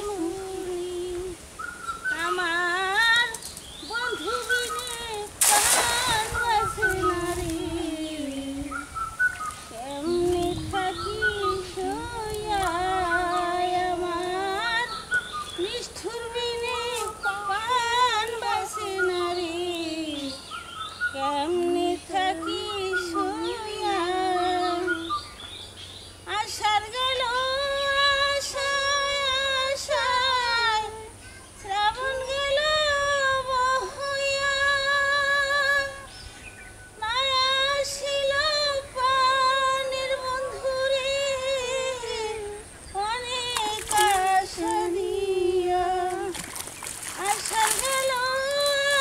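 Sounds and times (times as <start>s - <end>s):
woman singing unaccompanied: 0.0s - 25.4s, 26.2s - 49.0s.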